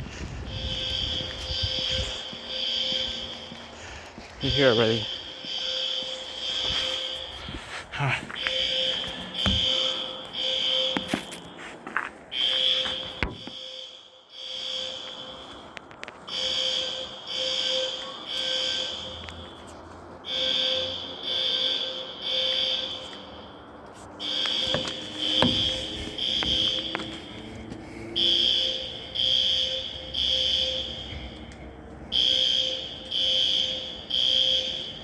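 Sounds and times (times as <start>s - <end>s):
fire alarm beeping: 0.1s - 27.5s, 28.2s - 35.0s.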